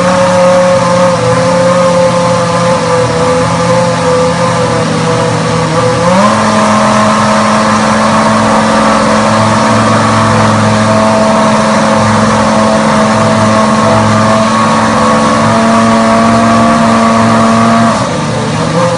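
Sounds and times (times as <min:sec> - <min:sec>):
racing car engine revving: 0:00.0 - 0:18.9.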